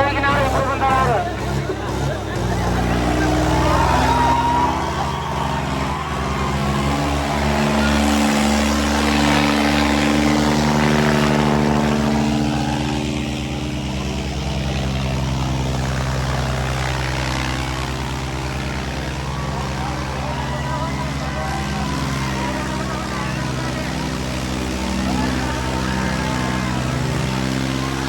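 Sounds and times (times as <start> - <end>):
tractor diesel engines running: 0.0 - 28.0.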